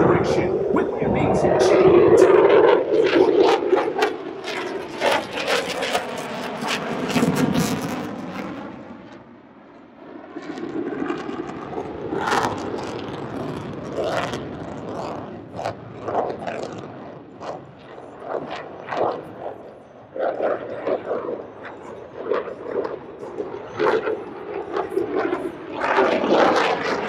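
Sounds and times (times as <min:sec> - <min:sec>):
fighter jet roaring: 0:00.0 - 0:27.0.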